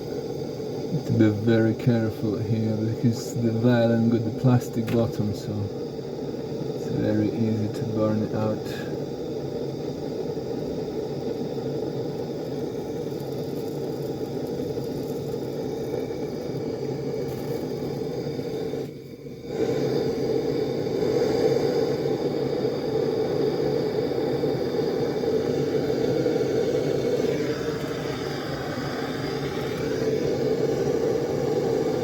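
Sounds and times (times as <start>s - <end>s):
blowtorch flame roaring: 0.0s - 32.0s.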